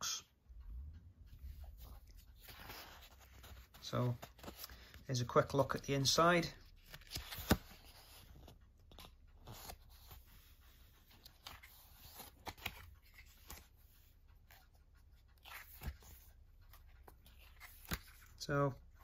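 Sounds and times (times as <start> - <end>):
paper pages being turned: 1.4 - 18.6.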